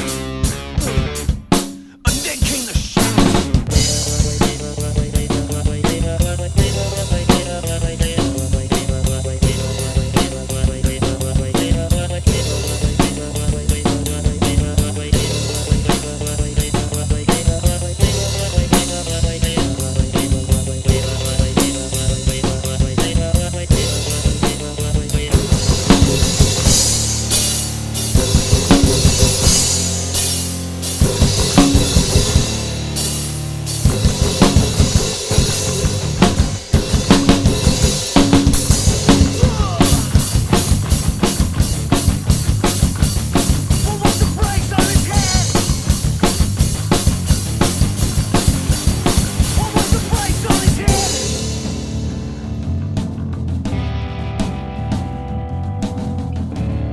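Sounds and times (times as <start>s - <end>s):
backing track music: 0.0s - 56.9s
drum kit played with sticks: 0.0s - 56.9s.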